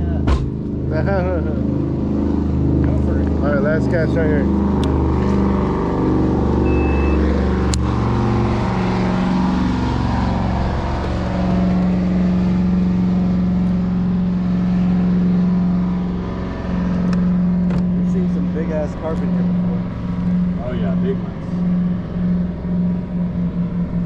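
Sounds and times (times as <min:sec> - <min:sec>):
boat motor droning: 0:00.0 - 0:24.0.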